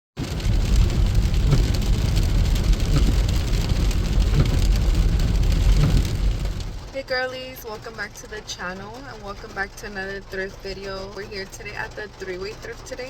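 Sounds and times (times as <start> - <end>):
heavy rain falling: 0.2 - 13.0.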